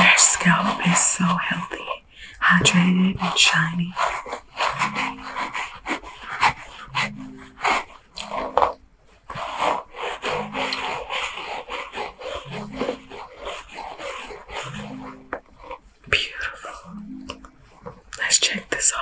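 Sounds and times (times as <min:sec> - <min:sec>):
brush scrubbing through hair: 0:00.0 - 0:19.0.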